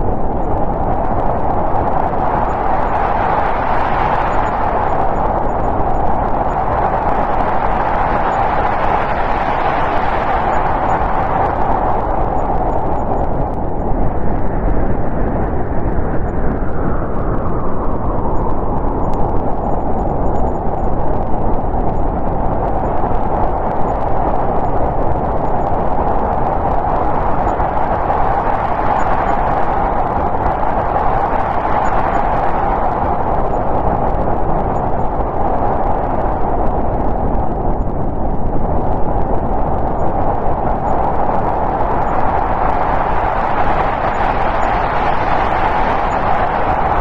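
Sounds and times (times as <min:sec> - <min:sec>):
snowstorm wind blowing: 0:00.0 - 0:47.0.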